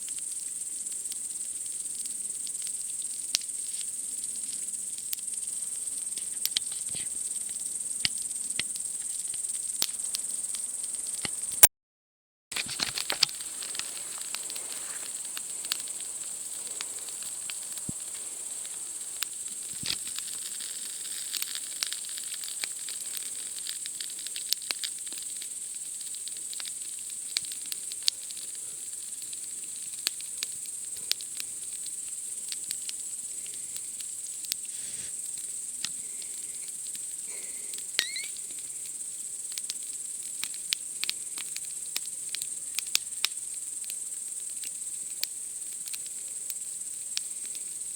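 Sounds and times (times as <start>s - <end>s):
campfire crackling: 0.0s - 11.7s, 12.5s - 47.9s
night insects chirping: 0.0s - 11.7s, 12.6s - 47.9s.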